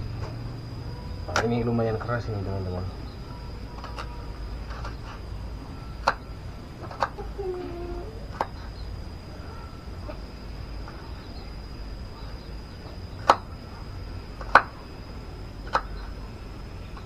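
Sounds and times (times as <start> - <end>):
faint steady high whine: 0.0 - 17.0.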